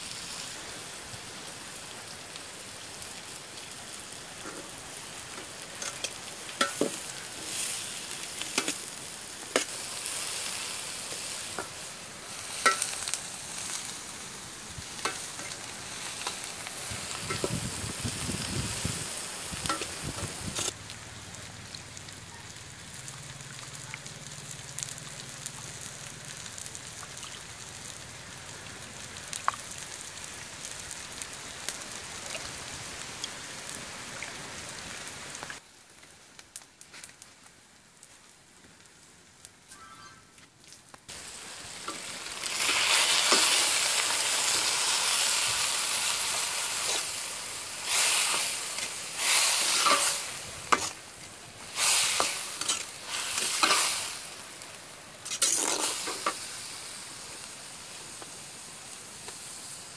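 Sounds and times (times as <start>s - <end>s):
food sizzling in a wok: 0.0s - 35.6s, 41.1s - 59.9s.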